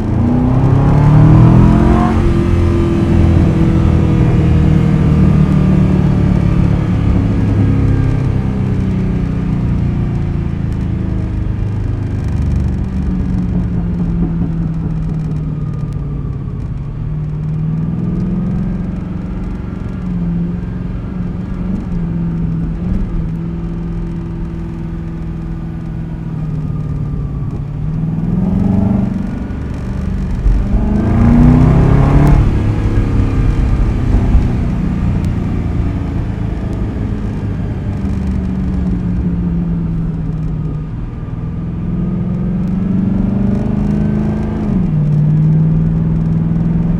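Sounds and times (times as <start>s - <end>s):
car engine droning at cruise: 0.0s - 46.9s.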